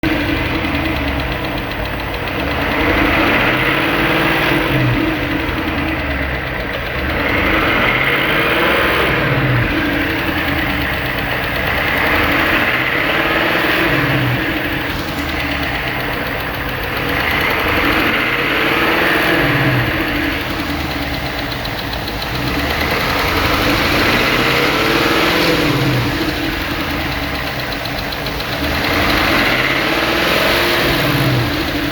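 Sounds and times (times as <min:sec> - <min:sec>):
car engine revving up and down: 0:00.0 - 0:31.9.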